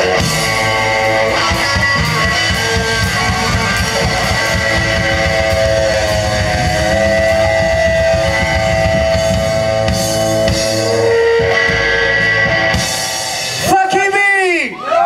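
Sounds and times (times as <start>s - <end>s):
rockabilly band playing live: 0.0s - 14.4s.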